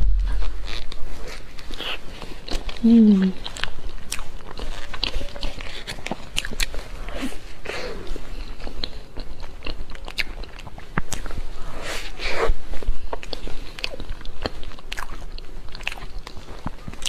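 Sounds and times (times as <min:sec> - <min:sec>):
biting and chewing: 0:00.0 - 0:17.0.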